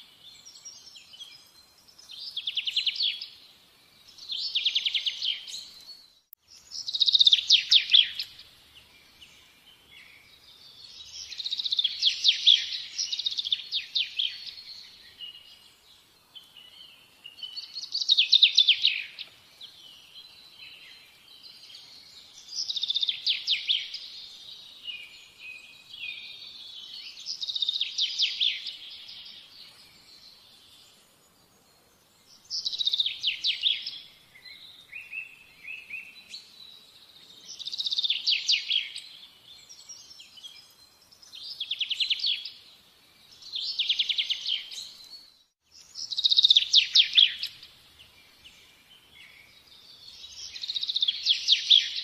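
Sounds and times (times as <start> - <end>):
faint bird chirping: 0.0 - 52.0
songbird chirps and trills: 0.0 - 52.0.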